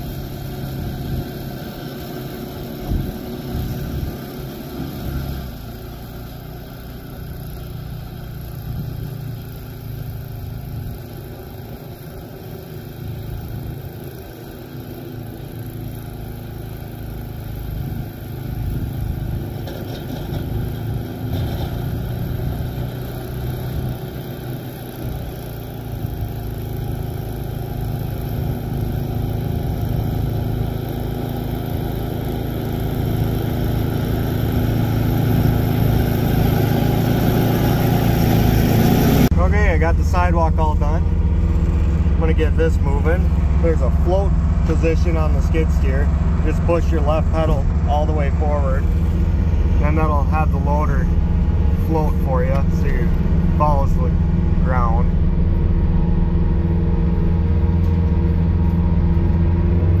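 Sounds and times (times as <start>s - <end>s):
snow blower engine running: 0.0s - 60.0s.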